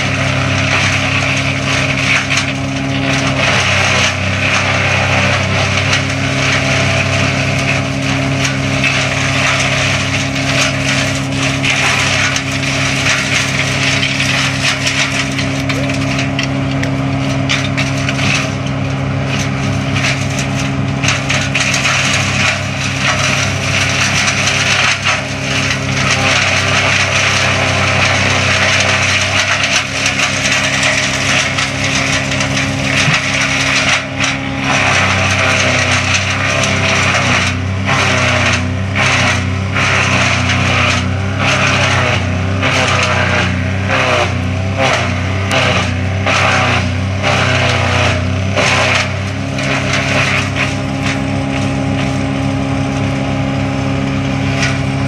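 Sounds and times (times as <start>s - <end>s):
branch chipper engine running: 0.0s - 55.0s
wood cracking and crunching: 0.0s - 55.0s.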